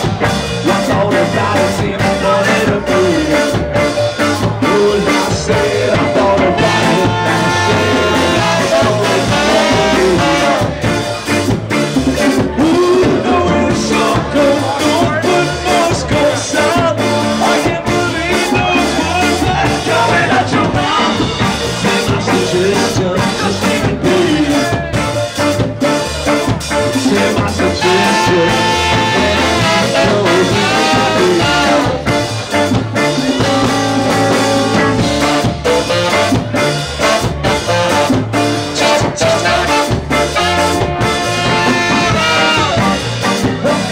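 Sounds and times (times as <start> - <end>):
electric guitar: 0.0 - 43.9
live band playing: 0.0 - 43.9
person singing: 0.0 - 43.9.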